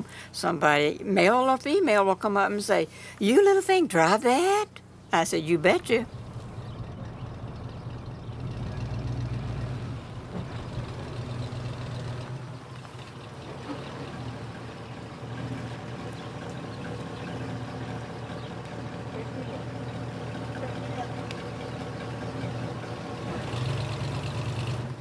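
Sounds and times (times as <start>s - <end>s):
vehicle engine droning: 4.8s - 25.0s.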